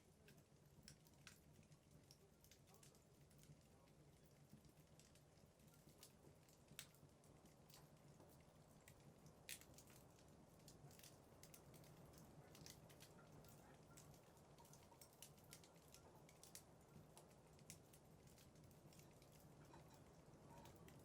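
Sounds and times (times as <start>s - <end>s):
low steady fire rumble: 0.0s - 21.0s
wood fire crackling: 0.0s - 21.0s.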